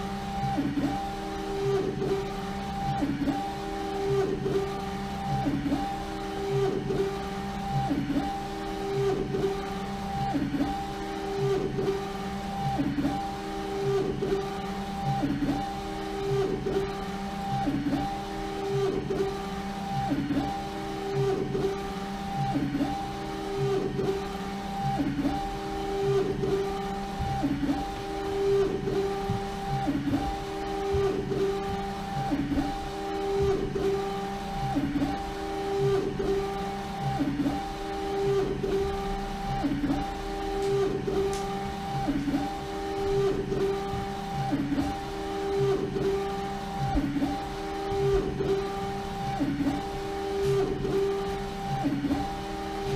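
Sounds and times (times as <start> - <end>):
printer drive motor whining: 0.0 - 52.9.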